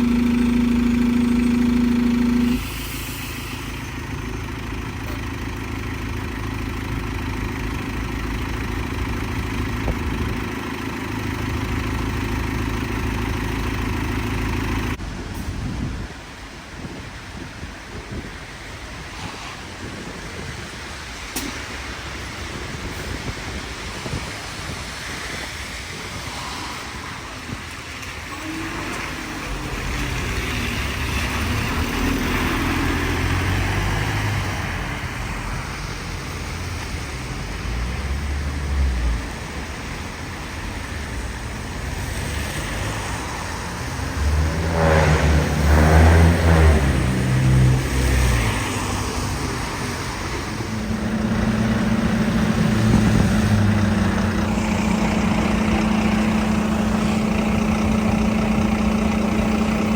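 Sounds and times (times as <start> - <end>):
bus pulling away: 0.0 - 59.9
heavy engine: 0.0 - 59.9
road traffic passing: 0.0 - 59.9.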